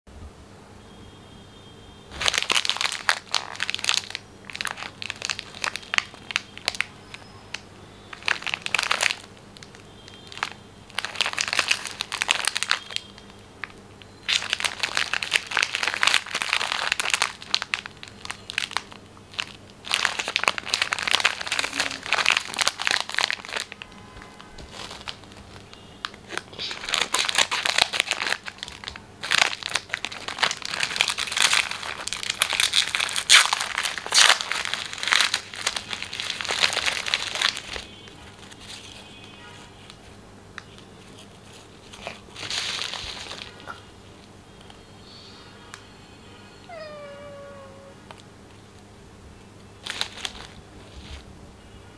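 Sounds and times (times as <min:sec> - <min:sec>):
plastic wrapper crinkling: 0:02.1 - 0:44.8, 0:49.8 - 0:51.3.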